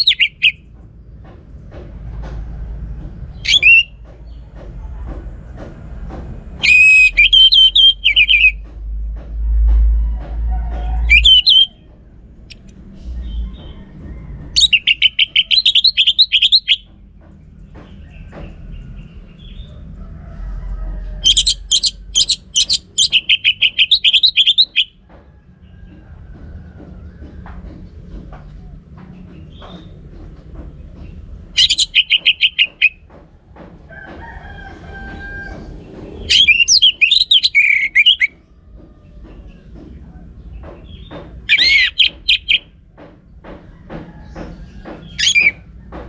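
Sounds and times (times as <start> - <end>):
low background rumble: 0.0 - 46.0.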